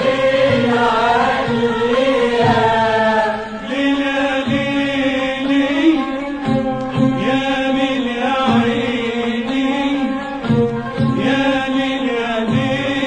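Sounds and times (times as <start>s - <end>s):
instrumental accompaniment: 0.0s - 13.0s
voices singing ornamented melody: 0.0s - 13.0s.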